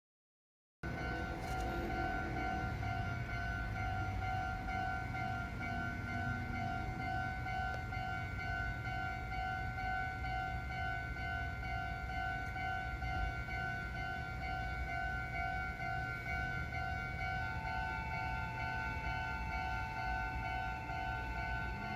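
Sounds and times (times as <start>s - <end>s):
level-crossing warning bell: 0.8s - 21.9s.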